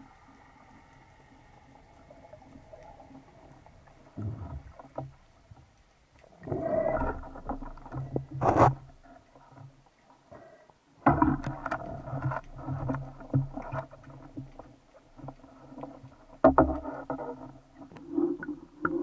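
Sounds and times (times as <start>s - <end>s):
water sloshing and bubbling: 0.0s - 19.0s.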